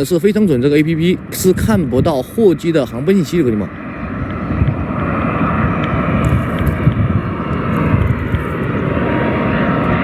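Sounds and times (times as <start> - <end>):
jet airliner engines rumbling: 0.0 - 10.0.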